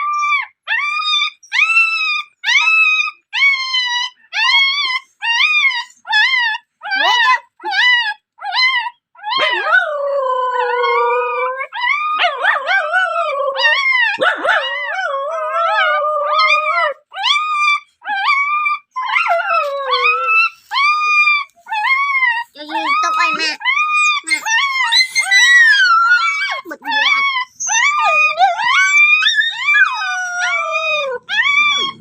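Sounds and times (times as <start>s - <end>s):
dog howling and yelping: 0.0s - 32.0s.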